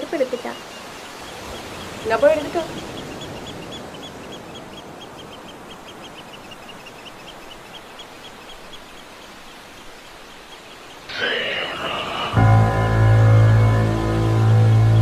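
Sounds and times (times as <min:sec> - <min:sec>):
faint steady hiss: 0:00.0 - 0:14.9.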